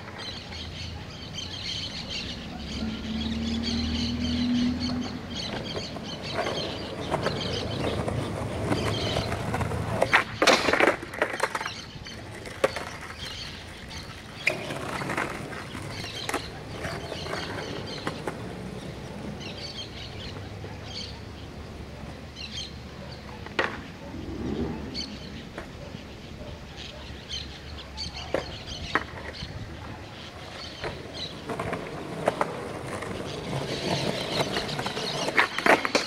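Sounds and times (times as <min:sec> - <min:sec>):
birds chirping faintly: 0:00.0 - 0:36.0
skateboard wheels rolling on concrete: 0:00.0 - 0:36.0
skateboard clacks: 0:04.8 - 0:26.0, 0:28.2 - 0:36.0.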